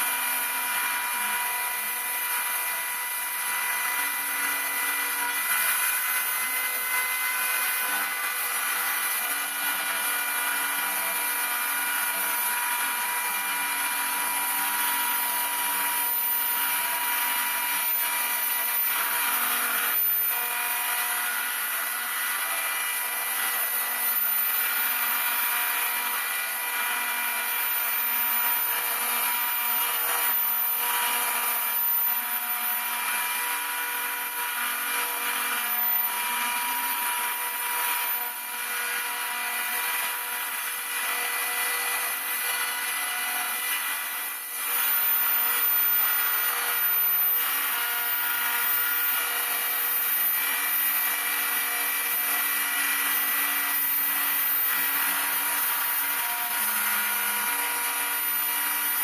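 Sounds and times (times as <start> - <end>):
router spindle whine: 0.0 - 59.0.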